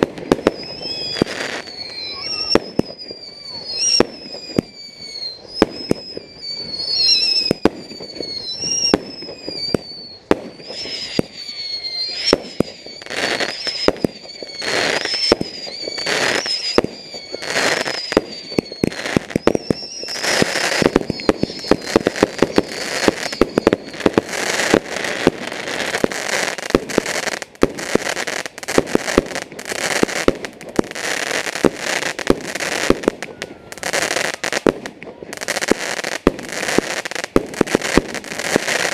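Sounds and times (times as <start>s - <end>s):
fireworks bangs: 0.0s - 38.9s
fireworks crackling and popping: 0.0s - 38.9s
whistling fireworks: 0.0s - 38.9s.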